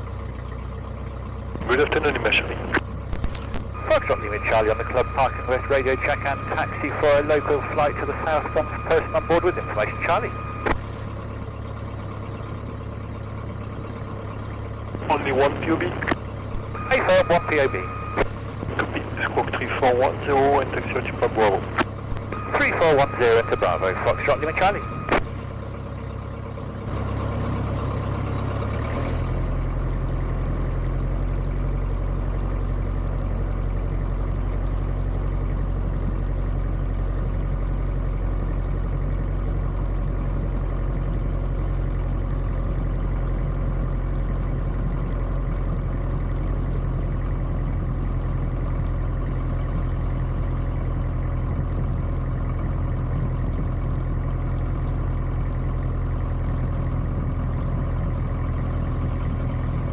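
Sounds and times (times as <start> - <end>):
light aircraft engine running: 0.0 - 59.9.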